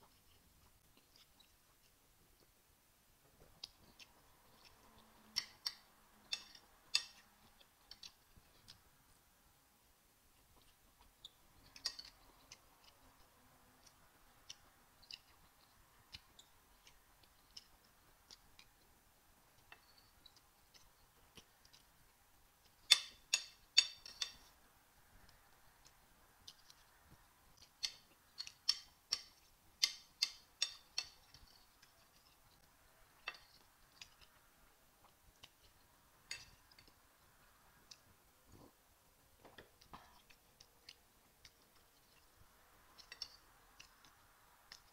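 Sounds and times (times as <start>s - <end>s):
soft chewing clicks: 0.0s - 2.6s, 3.2s - 9.2s, 10.2s - 38.9s, 39.5s - 44.9s.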